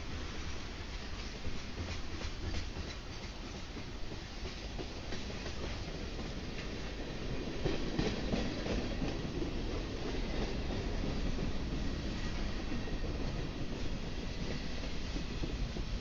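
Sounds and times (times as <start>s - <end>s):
freight train rumble: 0.0s - 16.0s
train wheels clicking over rail joints: 0.2s - 16.0s.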